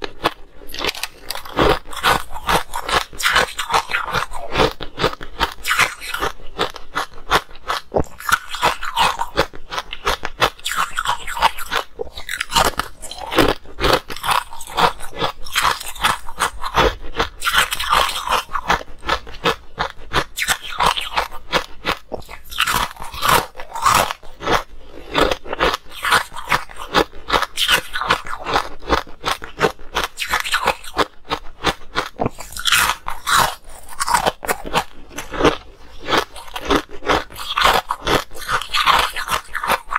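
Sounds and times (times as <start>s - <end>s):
crunching ice: 0.0s - 39.9s.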